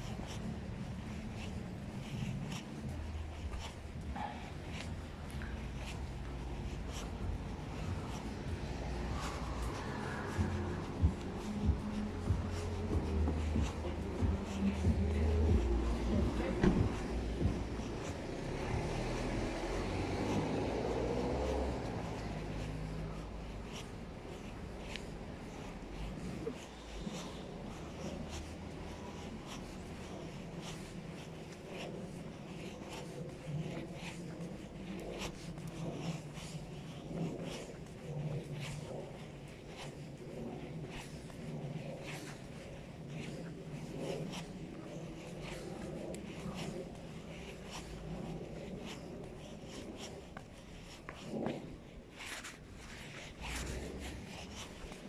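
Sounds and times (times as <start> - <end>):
footsteps on pavement: 0.0 - 55.0
low steady rumble: 0.0 - 55.0
microphone rubbing: 0.0 - 55.0.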